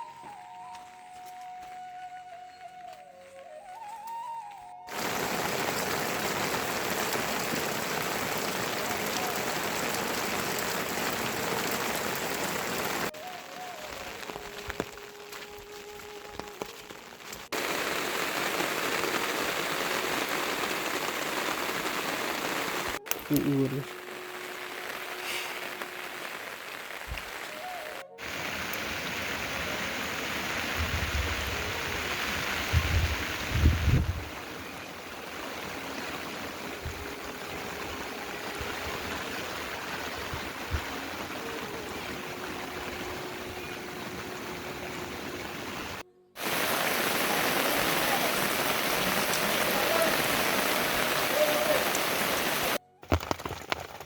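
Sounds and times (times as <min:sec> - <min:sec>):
heavy rain falling: 0:04.9 - 0:52.8
rush of water: 0:04.9 - 0:52.8.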